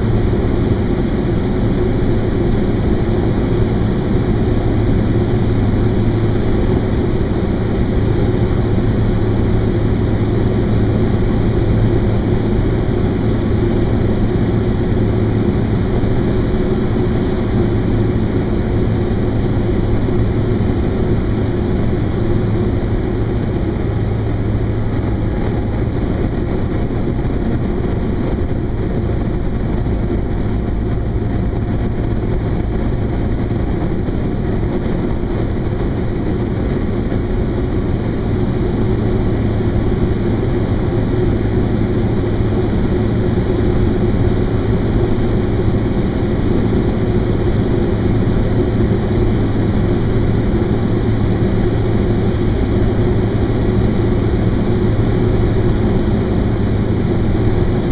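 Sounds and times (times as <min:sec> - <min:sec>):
aircraft engine and propeller drone: 0:00.0 - 0:57.9.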